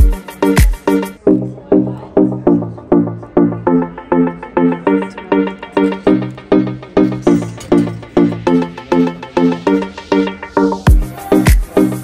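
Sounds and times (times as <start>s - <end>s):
repeating music riff: 0.0s - 12.0s.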